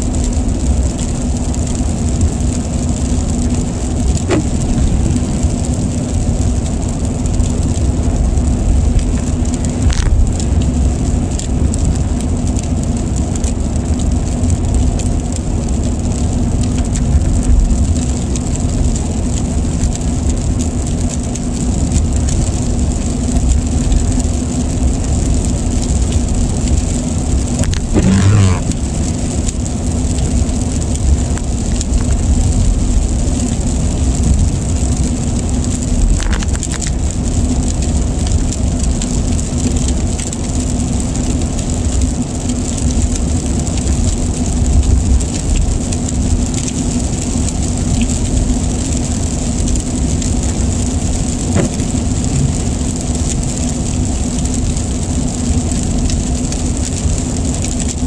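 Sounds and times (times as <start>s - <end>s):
rain hitting windshield: 0.0s - 58.0s
car cabin road noise: 0.3s - 20.7s, 21.3s - 41.0s, 45.9s - 54.3s.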